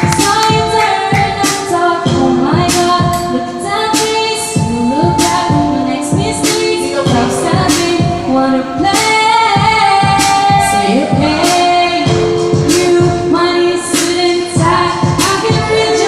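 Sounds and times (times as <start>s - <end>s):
music backing with a beat: 0.0s - 16.0s
woman singing: 0.0s - 16.0s.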